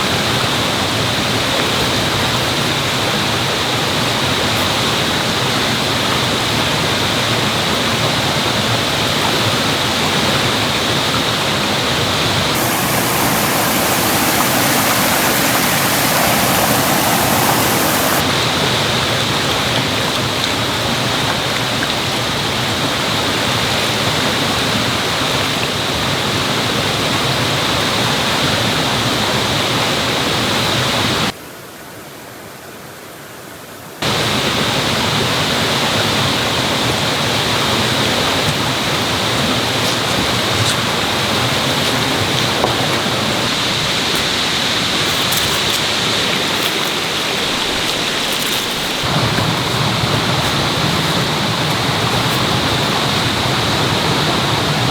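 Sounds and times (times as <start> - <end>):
mountain stream rushing: 0.0 - 31.3, 34.0 - 54.9.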